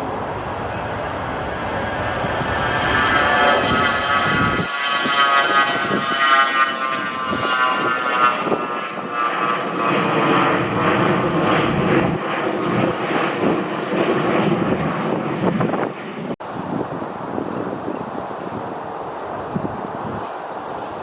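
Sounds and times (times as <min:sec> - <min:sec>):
aircraft engine whining: 0:00.0 - 0:21.0.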